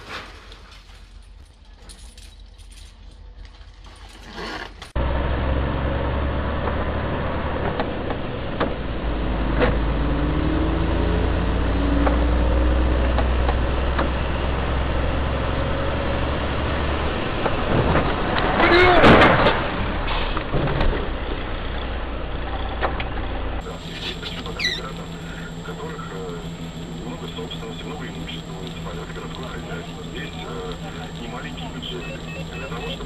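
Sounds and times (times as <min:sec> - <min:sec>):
vehicle engine and road drone: 0:00.0 - 0:33.0.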